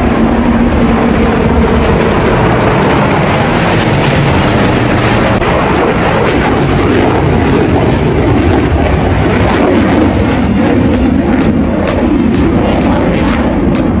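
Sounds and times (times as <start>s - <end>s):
jet flying overhead: 0.0s - 14.0s.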